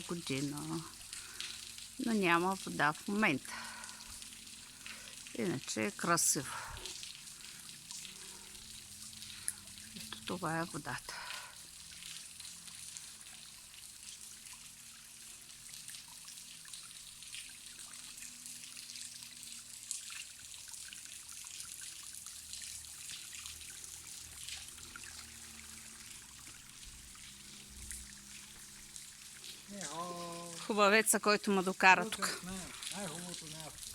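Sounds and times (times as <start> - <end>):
trickle of water splashing: 0.0 - 33.9
water drips: 0.0 - 33.9.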